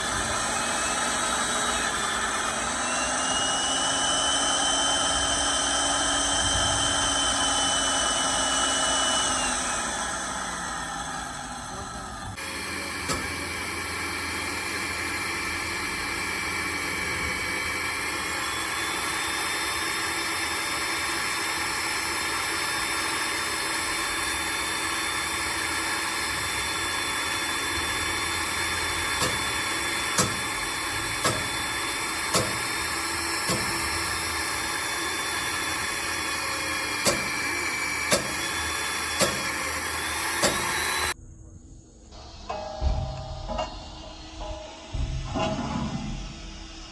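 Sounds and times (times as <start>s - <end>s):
machine humming with tones: 0.0s - 46.9s.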